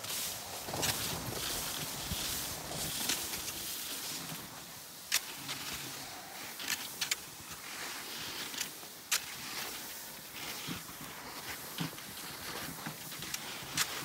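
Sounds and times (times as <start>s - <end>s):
ski poles planting: 0.0s - 14.0s
skis swishing over snow: 0.0s - 14.0s.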